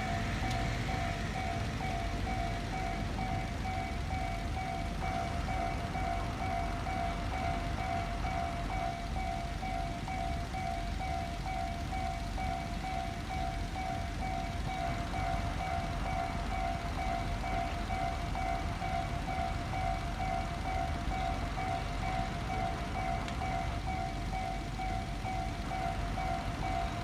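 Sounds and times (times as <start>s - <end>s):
level crossing alarm bell: 0.0s - 27.0s.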